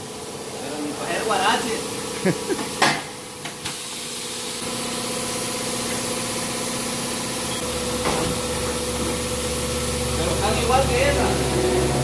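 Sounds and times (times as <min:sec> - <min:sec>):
tire machine mechanical hum: 0:00.0 - 0:12.0.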